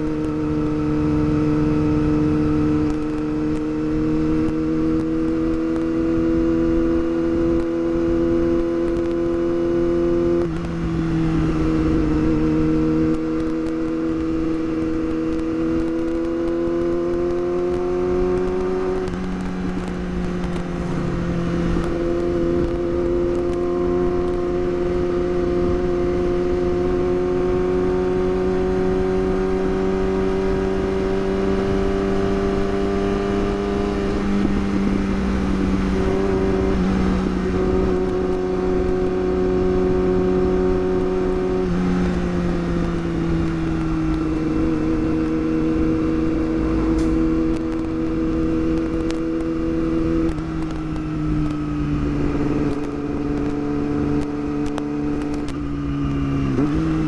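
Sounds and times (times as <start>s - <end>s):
motorcycle engine accelerating: 0.0s - 57.0s
wind noise: 0.0s - 57.0s
gear upshifts: 6.7s - 57.0s.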